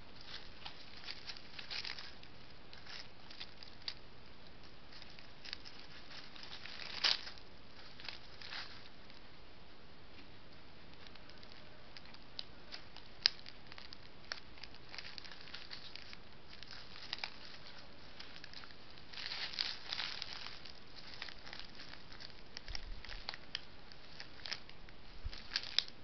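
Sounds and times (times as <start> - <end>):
crackling rustles: 0.0 - 26.0
steady hiss: 0.0 - 26.0.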